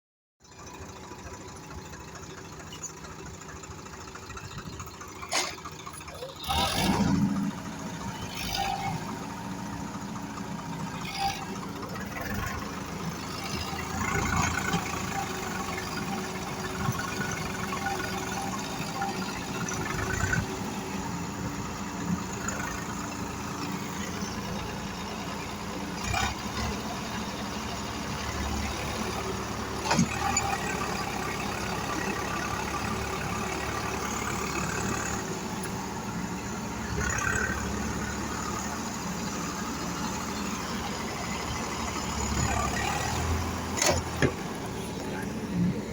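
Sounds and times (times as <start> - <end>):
diesel tractor engines running: 0.4 - 45.9.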